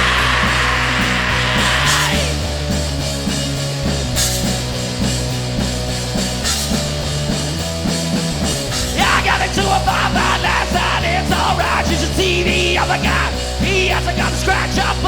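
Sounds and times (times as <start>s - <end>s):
bass guitar: 0.0s - 15.0s
distorted guitar: 0.0s - 15.0s
drum kit: 0.0s - 15.0s.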